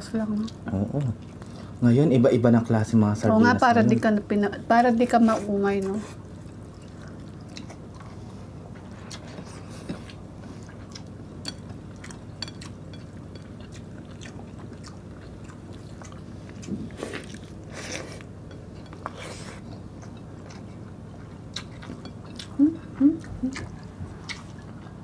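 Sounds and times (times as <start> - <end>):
people chewing with lip smacks: 0.3 - 1.8, 5.3 - 25.0.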